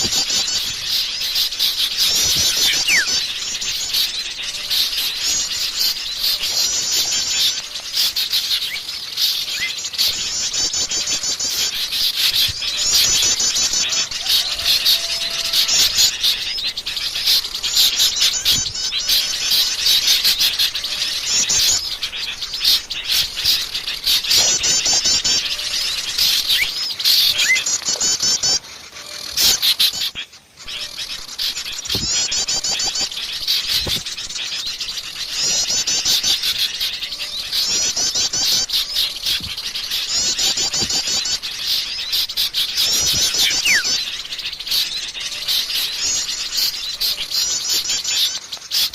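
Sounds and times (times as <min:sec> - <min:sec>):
forest birds singing: 0:00.0 - 0:48.9.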